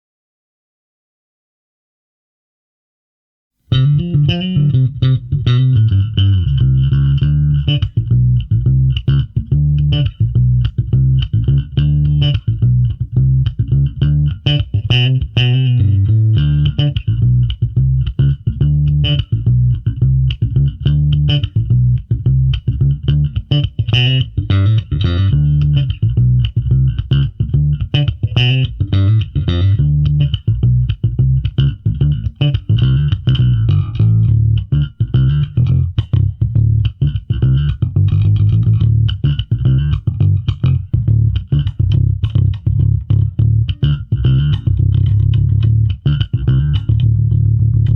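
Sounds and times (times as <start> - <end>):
electric bass plucked notes: 3.7 - 47.9.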